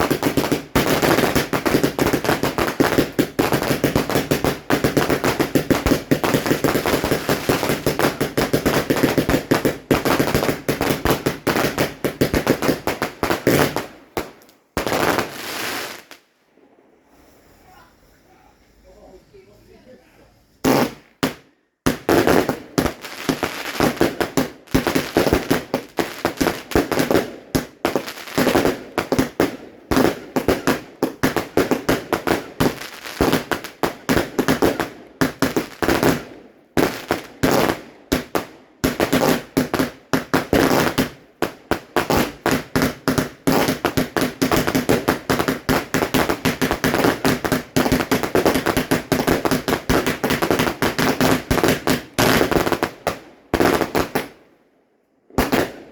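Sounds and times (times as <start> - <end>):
fireworks bangs and crackles: 0.0 - 18.2, 20.5 - 54.4, 55.3 - 55.9.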